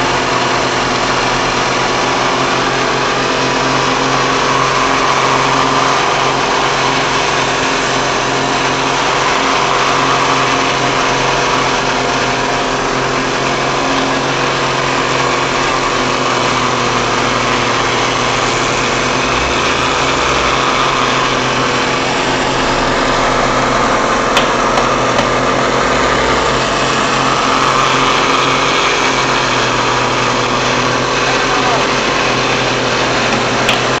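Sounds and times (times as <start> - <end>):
compressed air hissing: 0.0 - 34.0
machine mechanical hum: 0.0 - 34.0.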